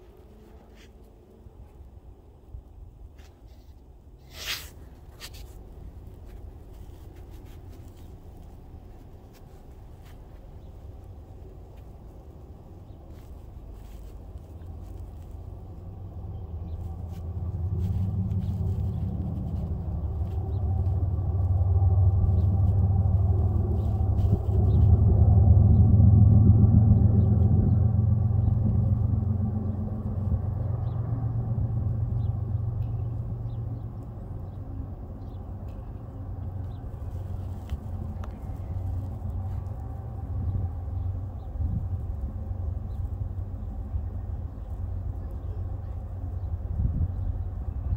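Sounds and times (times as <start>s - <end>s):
passing vehicle engine rumble: 0.0s - 47.9s.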